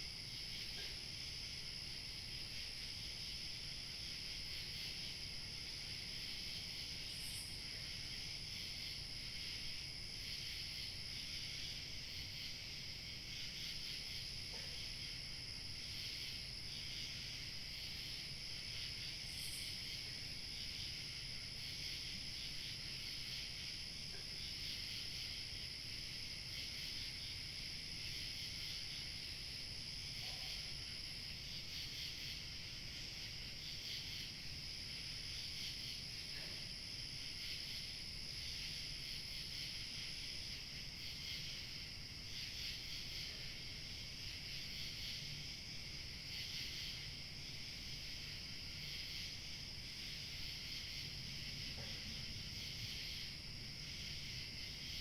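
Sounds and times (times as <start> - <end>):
crickets chirping: 0.0 - 55.0
high insect trill: 0.1 - 55.0.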